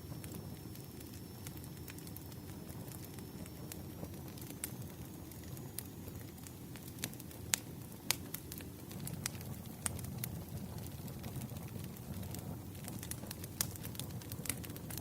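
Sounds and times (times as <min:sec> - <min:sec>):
bonfire crackling and popping: 0:00.0 - 0:15.0.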